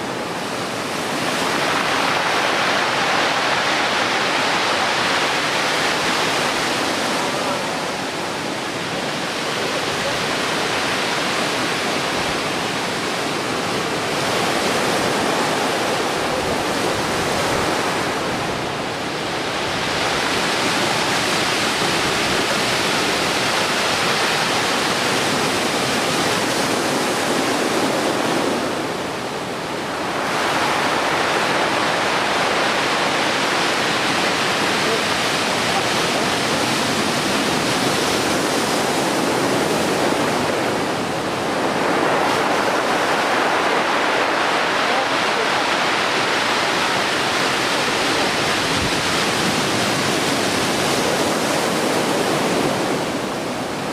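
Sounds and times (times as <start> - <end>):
waves crashing: 0.0 - 53.9.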